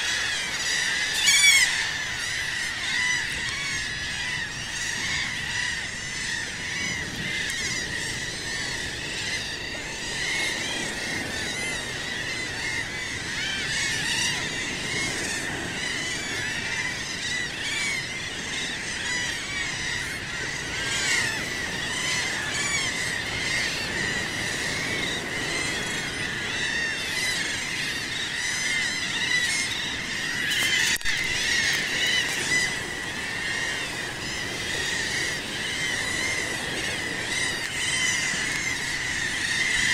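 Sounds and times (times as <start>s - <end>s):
sea rushing: 0.0s - 39.9s
seabirds squawking: 0.0s - 39.9s.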